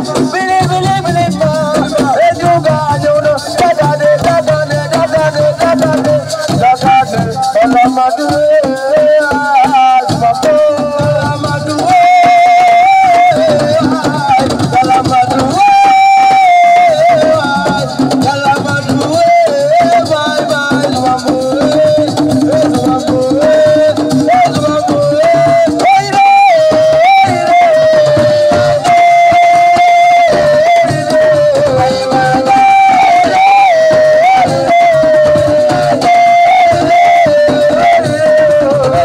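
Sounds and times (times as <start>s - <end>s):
drums: 0.0s - 39.0s.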